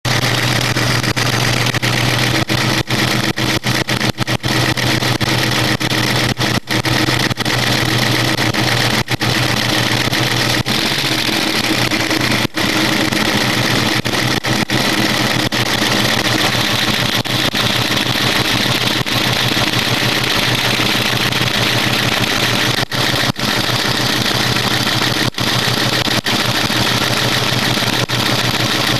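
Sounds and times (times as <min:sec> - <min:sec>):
car engine idling: 0:00.1 - 0:28.9
engine ticking: 0:00.1 - 0:28.9.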